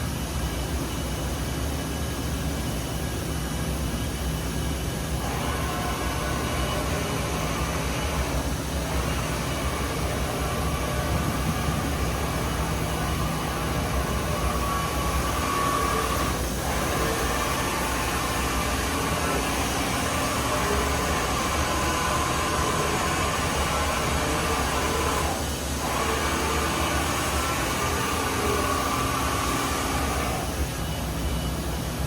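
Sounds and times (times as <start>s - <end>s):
machine hum with whine: 0.0s - 32.0s.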